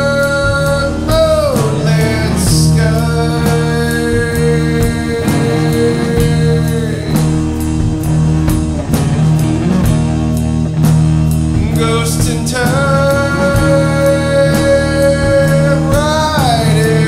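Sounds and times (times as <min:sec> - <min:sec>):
drum and cymbal hits: 0:00.0 - 0:17.0
stoner rock band playing: 0:00.0 - 0:17.0.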